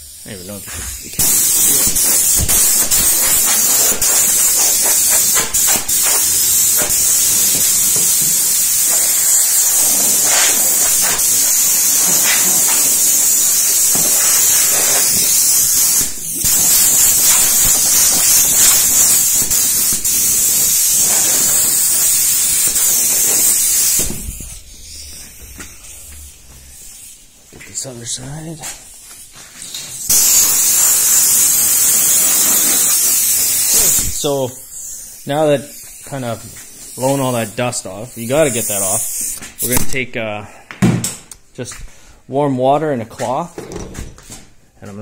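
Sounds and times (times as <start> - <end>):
compressed air hissing from blow gun: 0.0 - 27.4, 28.4 - 39.8.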